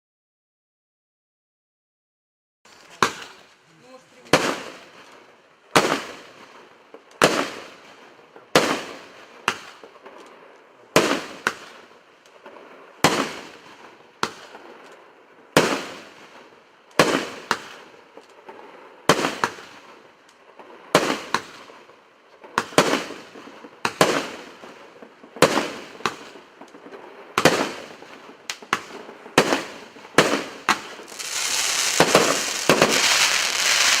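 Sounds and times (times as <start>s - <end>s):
fireworks bangs: 2.7s - 34.0s
fireworks crackling: 2.7s - 34.0s.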